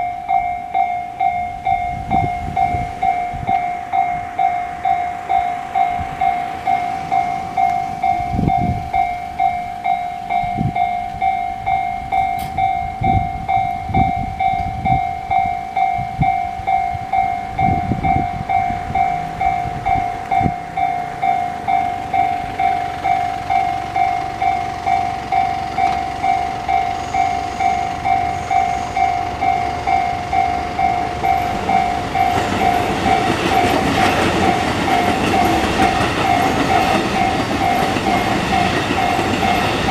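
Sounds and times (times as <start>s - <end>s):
approaching train: 0.0s - 39.9s
level-crossing warning bell: 0.0s - 39.9s.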